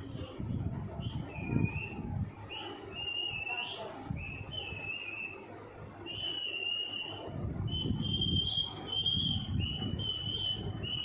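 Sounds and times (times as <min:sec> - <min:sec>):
parrot whistling: 0:01.0 - 0:05.4, 0:06.0 - 0:11.0.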